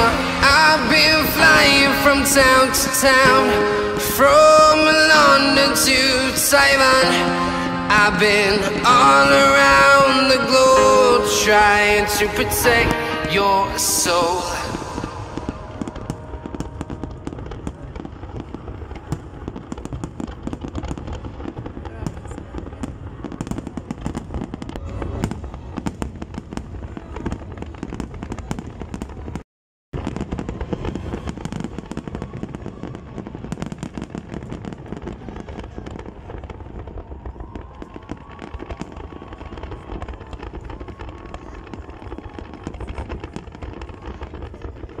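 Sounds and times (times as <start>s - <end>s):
fireworks bangs and crackling: 0.0s - 29.4s, 30.0s - 45.0s.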